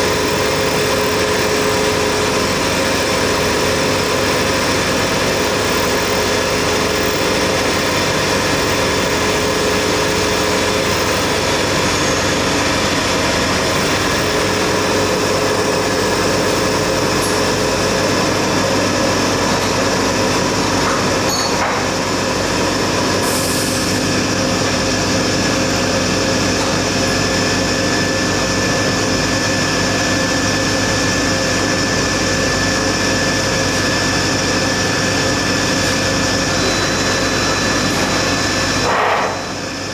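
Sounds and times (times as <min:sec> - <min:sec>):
factory machinery whirring: 0:00.0 - 0:39.9.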